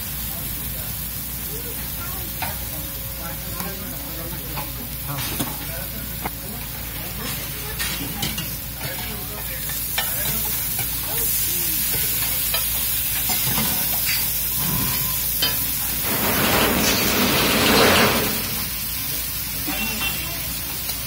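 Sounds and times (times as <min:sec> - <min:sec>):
food sizzling on griddle: 0:00.0 - 0:21.0.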